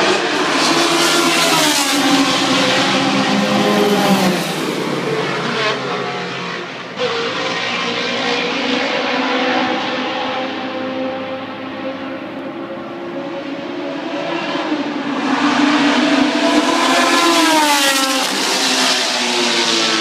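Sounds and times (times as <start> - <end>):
race car engine pulling away: 0.0 - 20.0
race car engines passing: 0.0 - 20.0.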